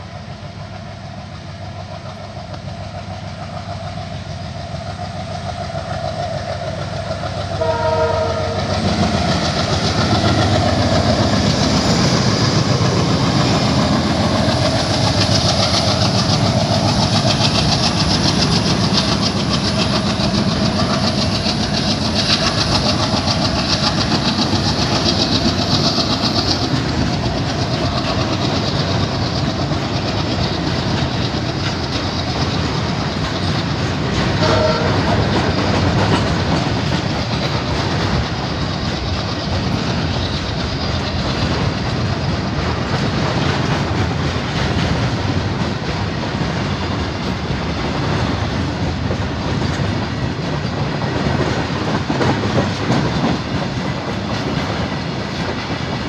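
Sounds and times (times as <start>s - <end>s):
freight train rolling past: 0.0s - 56.0s
wheels clacking over rail joints: 0.2s - 56.0s.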